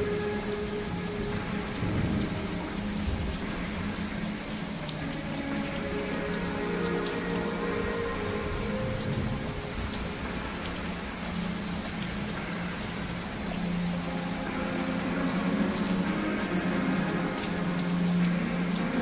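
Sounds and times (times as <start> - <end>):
rain hiss with drops: 0.0 - 19.0.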